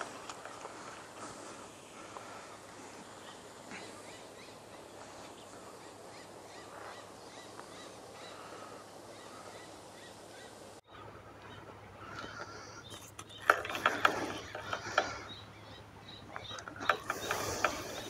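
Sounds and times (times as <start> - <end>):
short bird calls: 0.0 - 18.0
steady outdoor hiss: 0.0 - 18.0.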